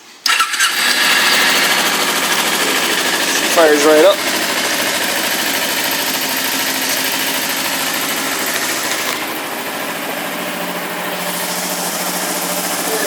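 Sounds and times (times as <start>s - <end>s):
motorcycle engine idling: 0.3s - 13.0s.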